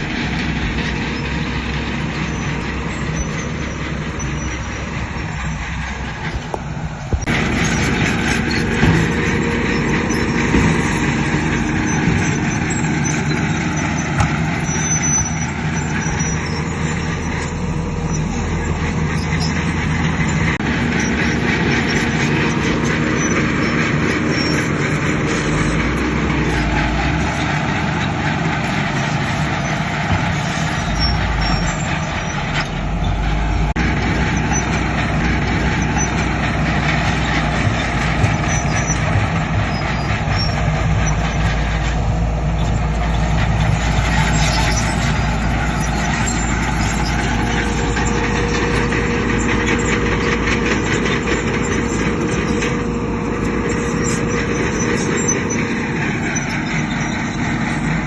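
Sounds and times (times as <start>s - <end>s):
heavy diesel machinery drone: 0.0s - 58.0s.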